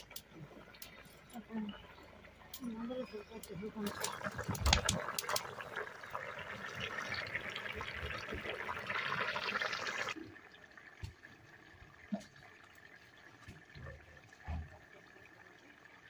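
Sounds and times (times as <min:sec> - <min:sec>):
curry boiling and spitting: 0:00.0 - 0:16.0.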